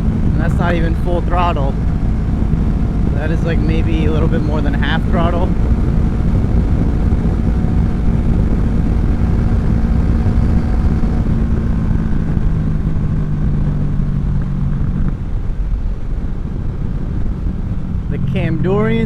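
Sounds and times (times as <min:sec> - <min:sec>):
motorcycle engine running: 0:00.0 - 0:19.0
wind noise: 0:00.0 - 0:19.0.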